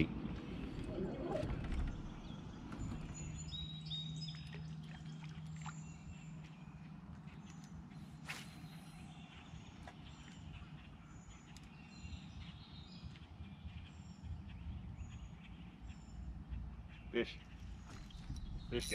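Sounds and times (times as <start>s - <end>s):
small birds chirping: 0.3s - 18.9s.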